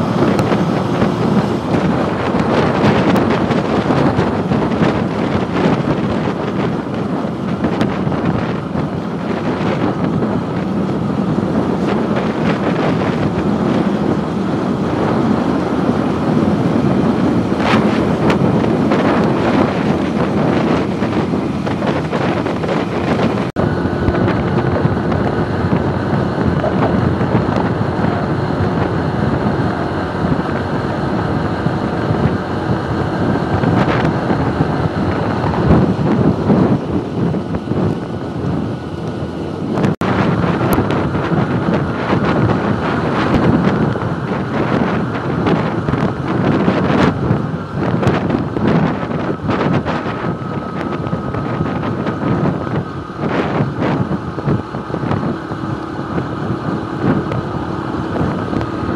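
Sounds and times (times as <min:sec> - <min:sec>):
motorcycle engine: 0:00.0 - 0:58.9
wind buffeting microphone: 0:00.0 - 0:58.9.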